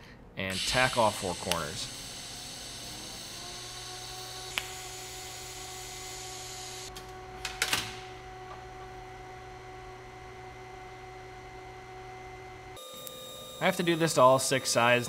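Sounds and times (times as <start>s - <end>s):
welder humming: 0.5s - 15.0s.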